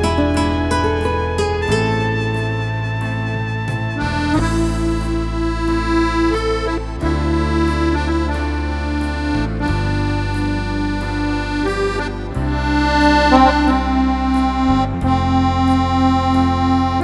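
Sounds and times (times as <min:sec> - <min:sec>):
accordion playing a tune: 0:00.0 - 0:17.0.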